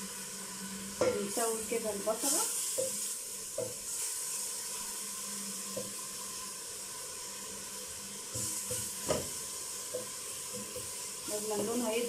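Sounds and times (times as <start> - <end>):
onion sizzling in pot: 0.0 - 12.0.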